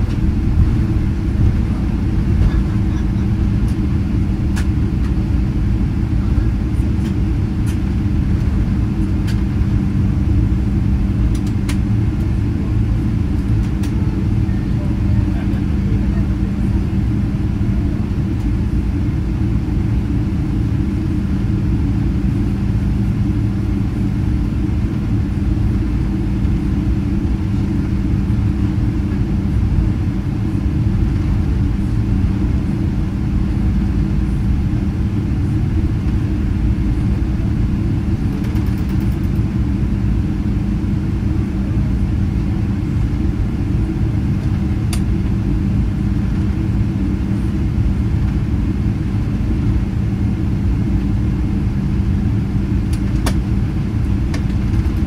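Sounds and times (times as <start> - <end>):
airplane cabin rumble and hum: 0.0 - 55.0.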